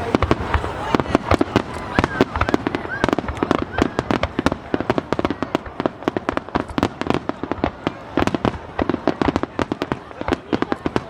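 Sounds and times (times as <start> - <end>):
fireworks cracking and popping: 0.0 - 11.0.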